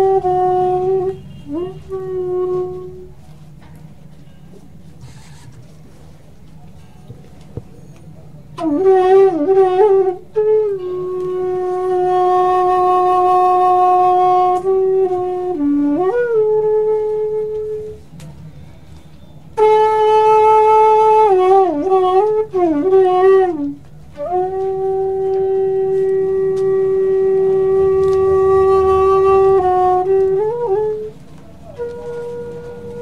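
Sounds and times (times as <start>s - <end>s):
slow wind instrument melody: 0.0s - 33.0s.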